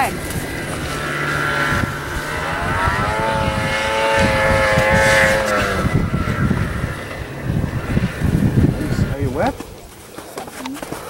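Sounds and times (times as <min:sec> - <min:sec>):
snowmobile engine revving: 0:00.0 - 0:09.8.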